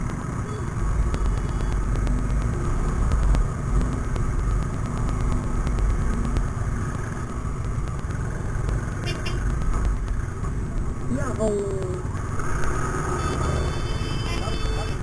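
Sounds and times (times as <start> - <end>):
motorcycle rumbling: 0.0 - 15.0
road traffic: 0.0 - 15.0.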